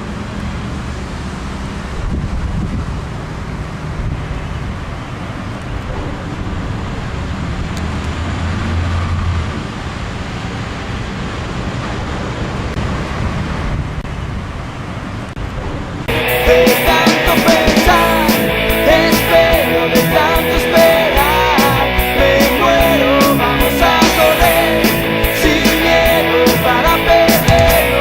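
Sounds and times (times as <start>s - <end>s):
rumbling background noise: 0.0s - 28.0s.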